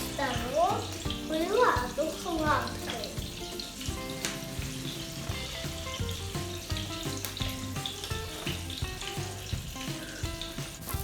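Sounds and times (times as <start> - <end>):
background music: 0.0 - 11.0
pancakes sizzling in oil: 0.0 - 11.0.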